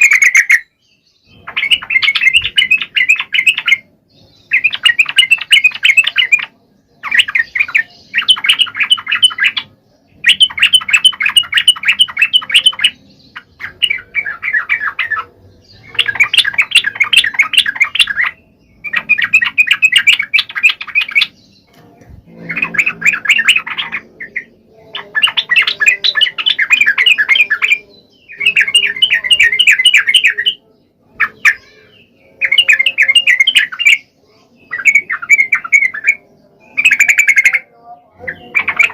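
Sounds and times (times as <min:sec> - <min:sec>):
bird singing chattering phrases: 0:00.0 - 0:38.9.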